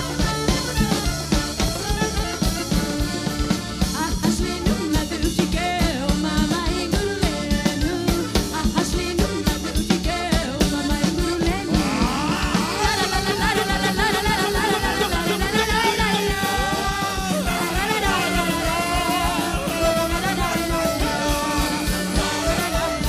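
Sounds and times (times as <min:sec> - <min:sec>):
band music with drum kit: 0:00.0 - 0:23.0.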